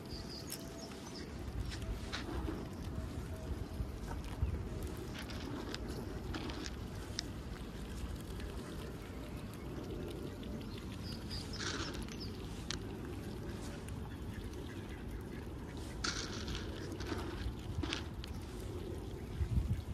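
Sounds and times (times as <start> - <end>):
low outdoor rumble: 0.0 - 19.9.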